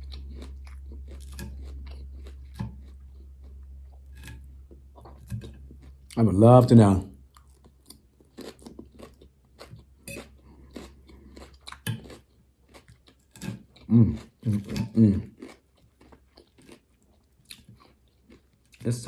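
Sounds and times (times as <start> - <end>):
crisp wet chewing crunches: 0.0 - 4.4, 7.3 - 19.0.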